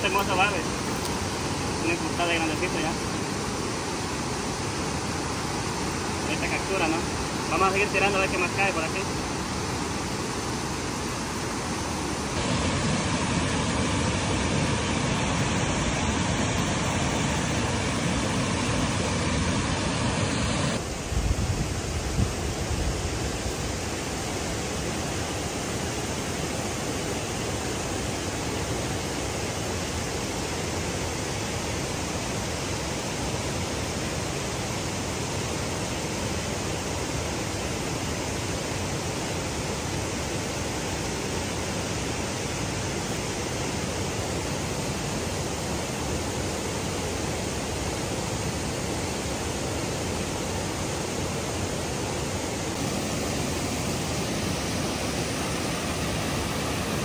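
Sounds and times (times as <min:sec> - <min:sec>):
water rushing from a dam: 0:00.0 - 0:57.0.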